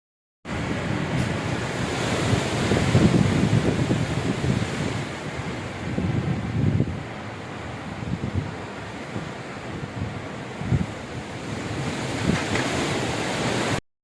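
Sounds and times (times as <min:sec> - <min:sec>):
strong wind buffeting microphone: 0:00.5 - 0:13.8.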